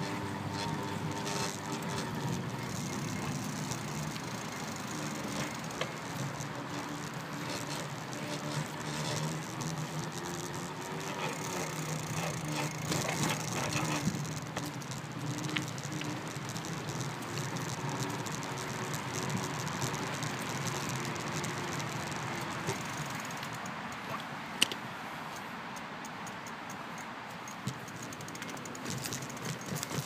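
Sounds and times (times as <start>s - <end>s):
bicycle clicks and rattles: 0.0s - 30.0s
steady low hum: 0.0s - 30.0s.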